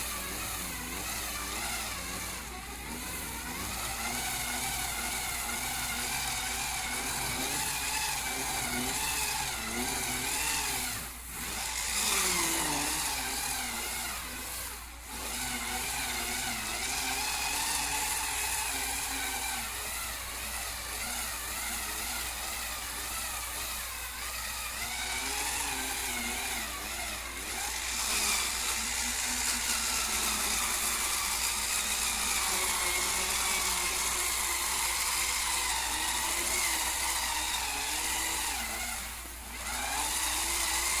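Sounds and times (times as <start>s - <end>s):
battery motor whirring: 0.0s - 41.0s.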